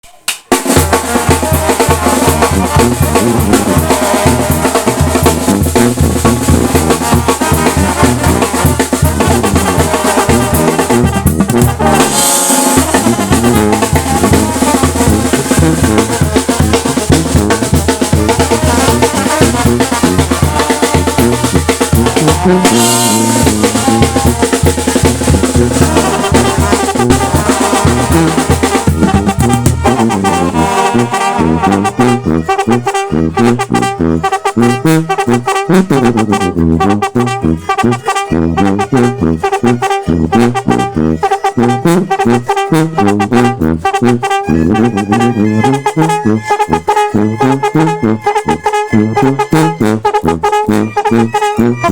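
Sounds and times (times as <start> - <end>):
banda music with brass: 0.0 - 51.9
bass drum and snare beat: 0.0 - 51.9.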